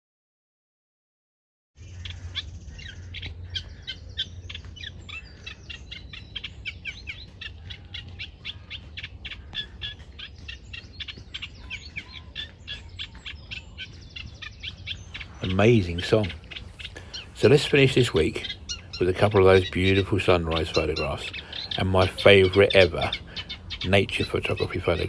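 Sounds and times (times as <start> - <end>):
songbird chirping and trilling: 1.8 - 25.0.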